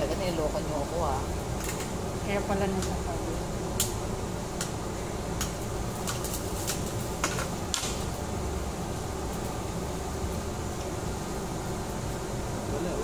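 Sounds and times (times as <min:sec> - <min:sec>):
ventilation hum: 0:00.0 - 0:13.0.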